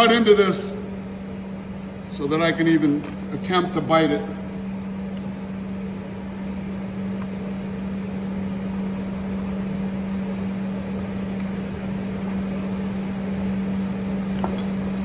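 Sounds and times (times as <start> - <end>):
ventilation unit humming: 0.0 - 15.0.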